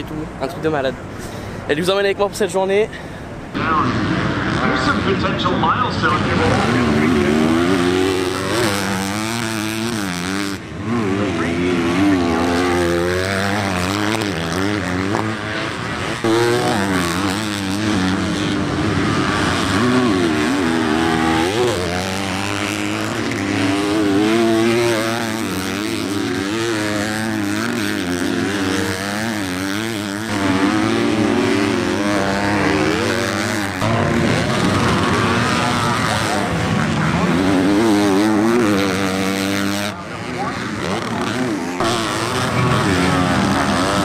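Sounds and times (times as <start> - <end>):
motocross bike engines revving: 0.0 - 44.0.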